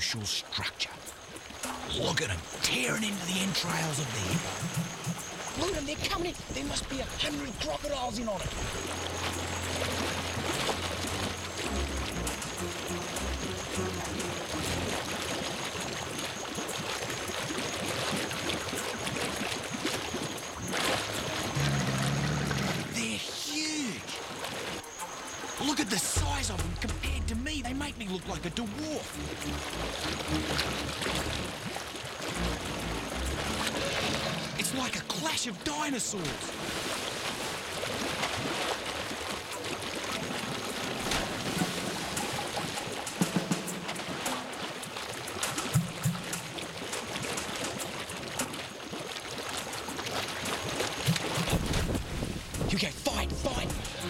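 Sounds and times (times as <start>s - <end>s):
rushing water: 0.0s - 54.0s
crocodiles splashing in water: 3.3s - 23.2s, 29.0s - 52.7s.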